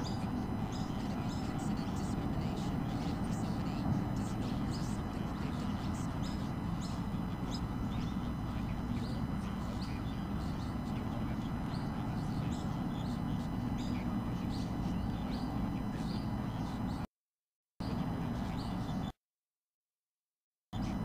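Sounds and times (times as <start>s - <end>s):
small bird chirping: 0.0s - 17.0s, 17.8s - 19.1s
steady low rumble: 0.0s - 17.0s.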